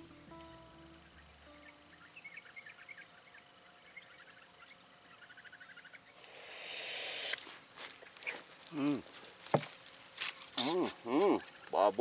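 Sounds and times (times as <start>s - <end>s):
insect chirps: 0.0s - 12.0s
insects droning: 0.0s - 12.0s
rustling hiss: 0.0s - 12.0s.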